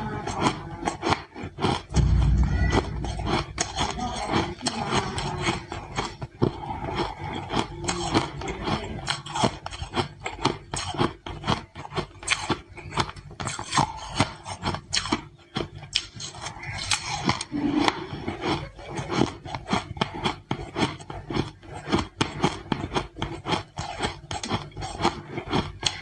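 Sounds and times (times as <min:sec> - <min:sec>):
ice being chewed: 0:00.0 - 0:01.9, 0:03.3 - 0:26.0.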